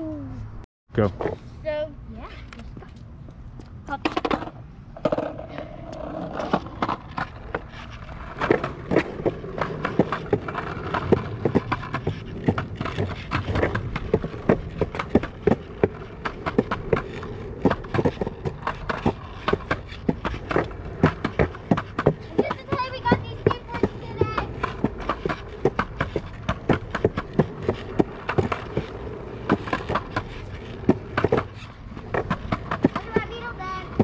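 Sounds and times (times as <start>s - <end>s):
skateboard wheels rolling on concrete: 1.0s - 34.0s
skateboard clicks and clacks: 3.9s - 34.0s.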